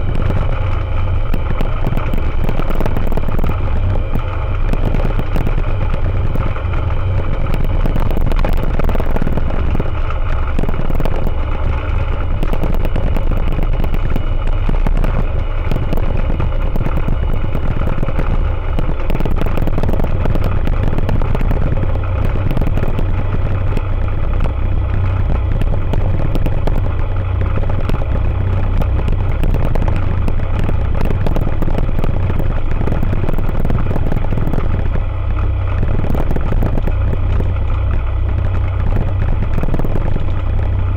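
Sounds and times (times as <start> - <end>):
aircraft engine and propeller: 0.0 - 40.9.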